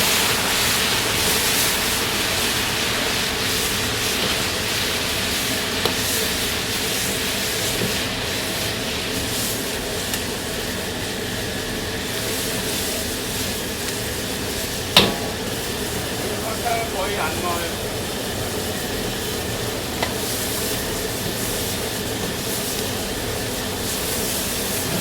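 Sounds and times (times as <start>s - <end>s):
gas burners hissing: 0.0s - 25.0s.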